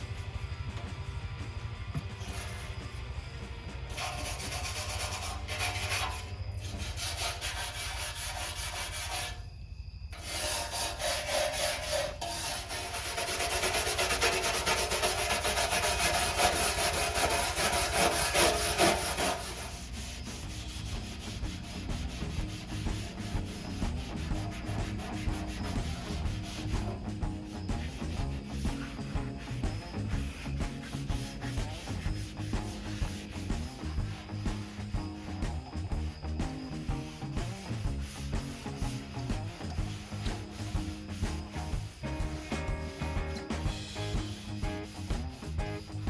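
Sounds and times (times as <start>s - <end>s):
scrubbing sheet steel: 3.9s - 9.5s, 10.1s - 46.0s.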